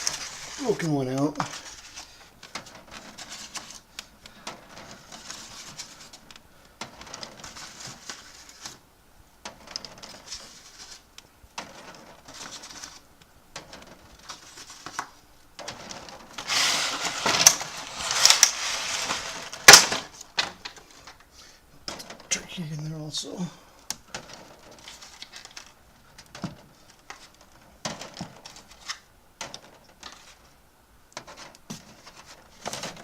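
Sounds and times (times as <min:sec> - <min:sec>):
rustling and scraping: 0:00.0 - 0:23.4, 0:24.0 - 0:33.0.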